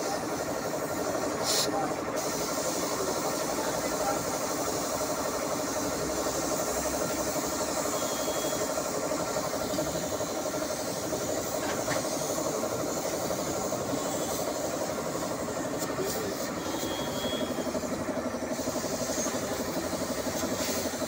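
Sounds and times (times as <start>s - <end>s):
air compressor pulsing: 0.0s - 21.0s
spray gun air hiss: 0.0s - 21.0s.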